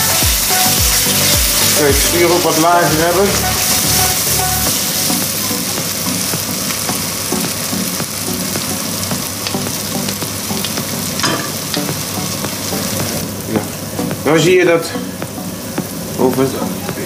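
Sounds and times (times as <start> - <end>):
spice paste sizzling in oil: 0.0 - 17.0.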